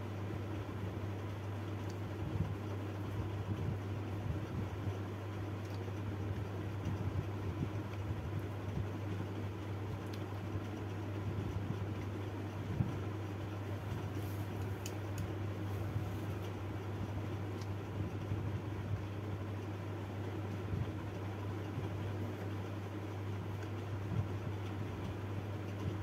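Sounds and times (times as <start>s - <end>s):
fan-like hiss: 0.0s - 26.0s
steady low hum: 0.0s - 26.0s.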